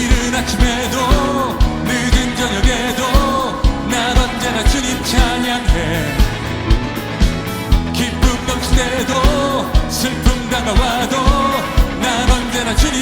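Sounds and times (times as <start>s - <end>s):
person singing: 0.0s - 6.9s, 7.8s - 13.0s
live band playing upbeat groove: 0.0s - 13.0s.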